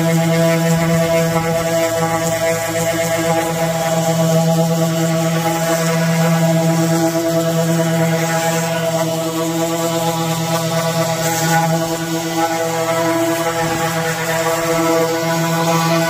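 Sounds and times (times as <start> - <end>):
orbital sander motor hum: 0.0 - 16.0
sandpaper hissing on wood: 0.1 - 16.0.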